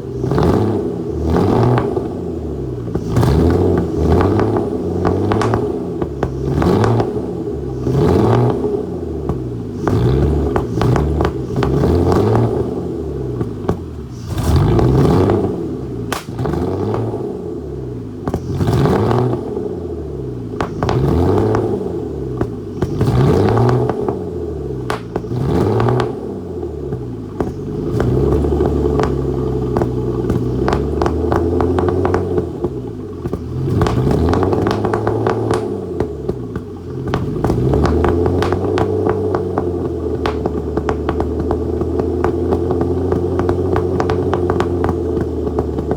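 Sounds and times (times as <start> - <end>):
car engine revving roughly: 0.0 - 45.9
exhaust pops and crackles: 0.0 - 45.9.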